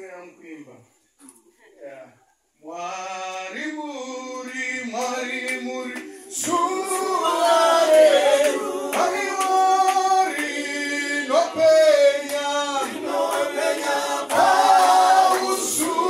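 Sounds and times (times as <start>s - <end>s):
group singing a hymn: 2.6s - 16.0s.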